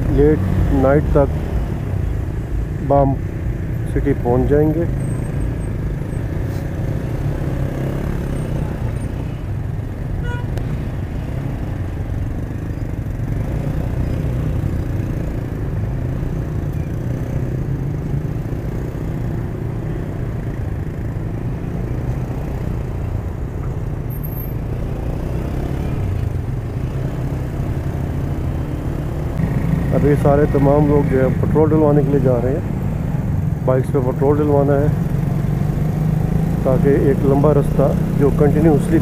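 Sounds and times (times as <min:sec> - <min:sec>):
hum of car traffic: 0:00.0 - 0:39.0.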